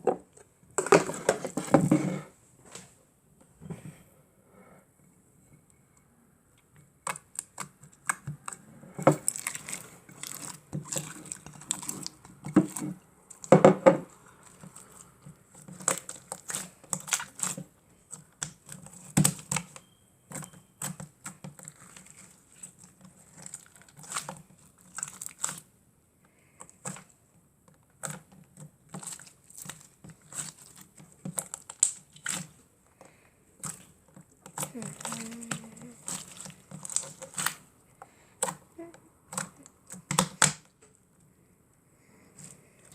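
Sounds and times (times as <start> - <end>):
hands kneading sticky slime: 6.6 - 25.8, 26.4 - 41.1, 42.2 - 42.9.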